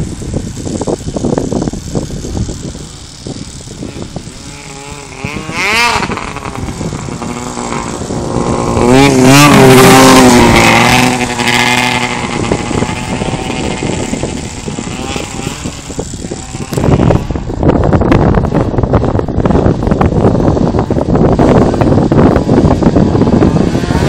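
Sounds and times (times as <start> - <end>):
snowmobile engine revving: 0.0 - 24.0.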